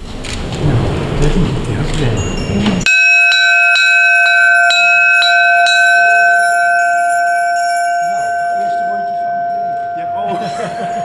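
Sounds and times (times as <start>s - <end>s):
bells ringing: 2.2s - 11.0s.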